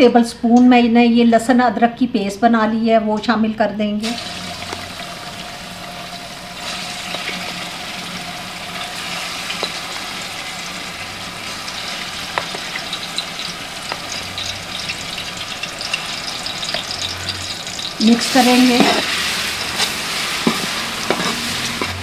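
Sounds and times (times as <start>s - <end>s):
oil sizzling in a pot: 4.0s - 22.0s.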